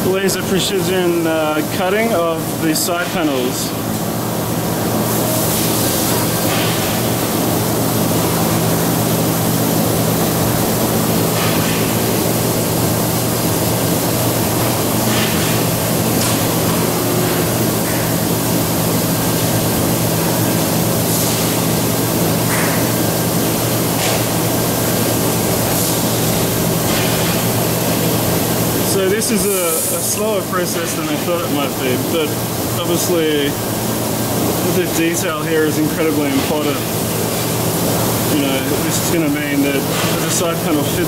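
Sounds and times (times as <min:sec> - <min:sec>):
low machine hum: 0:00.0 - 0:41.0
laser cutting machine hissing: 0:05.0 - 0:41.0.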